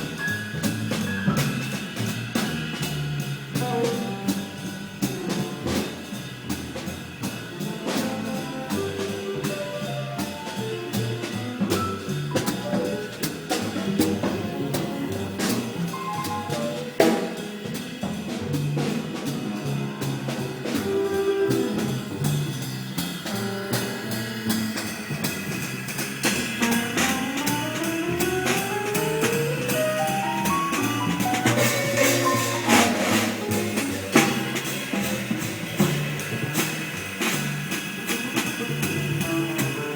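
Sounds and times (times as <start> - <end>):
acoustic piano: 0.0 - 39.9
double bass: 0.0 - 39.9
drum kit: 0.0 - 39.9.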